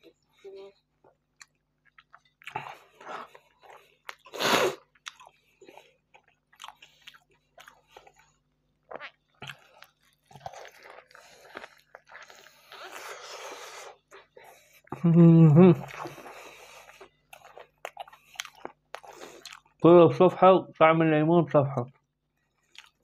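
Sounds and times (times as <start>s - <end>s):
man chewing food: 0.0s - 19.8s, 21.9s - 23.0s.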